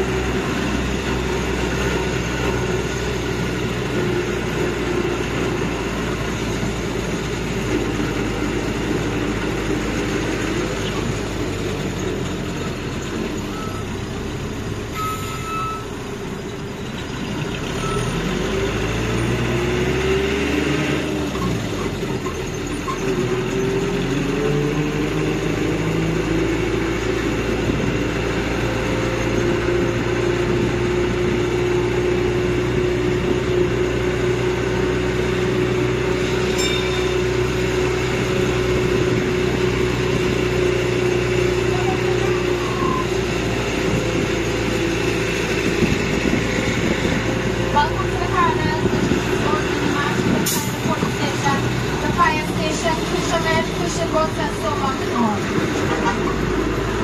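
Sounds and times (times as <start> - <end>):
land train engine running: 0.0 - 19.6, 21.0 - 57.0.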